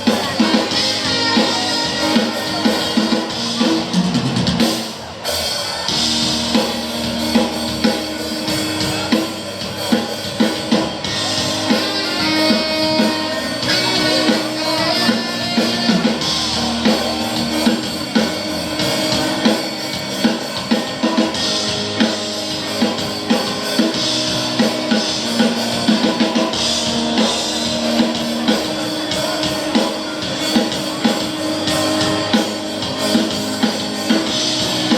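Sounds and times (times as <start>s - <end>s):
drum kit: 0.0s - 34.9s
electric guitar: 0.0s - 34.9s
live band playing: 0.0s - 34.9s.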